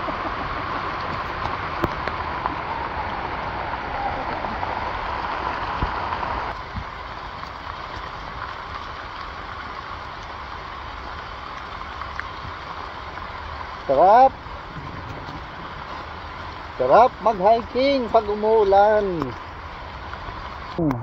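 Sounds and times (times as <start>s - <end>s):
heavy rain through foliage: 0.0s - 21.0s.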